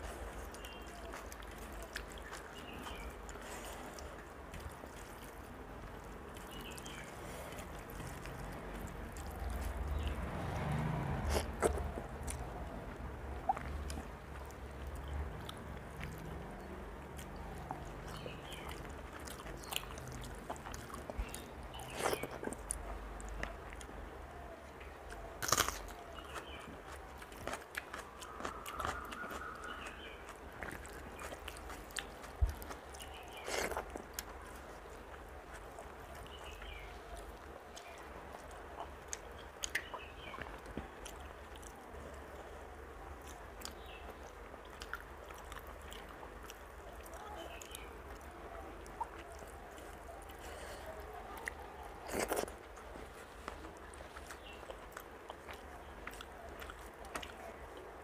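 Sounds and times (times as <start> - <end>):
chewing: 0.0 - 58.0.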